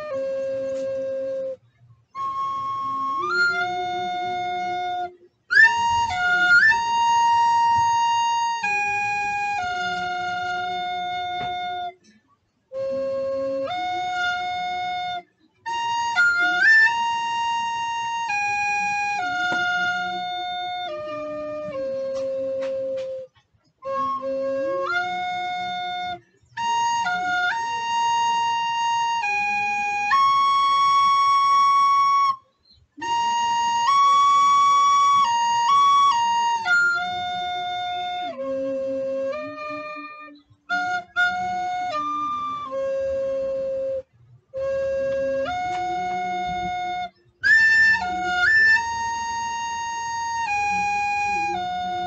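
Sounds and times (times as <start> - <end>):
recorder playing slow melody: 0.0 - 52.0.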